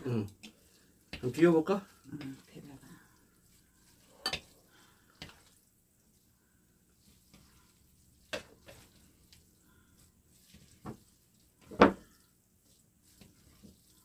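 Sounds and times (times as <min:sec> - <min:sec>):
chopsticks stirring noodles: 0:00.0 - 0:14.0.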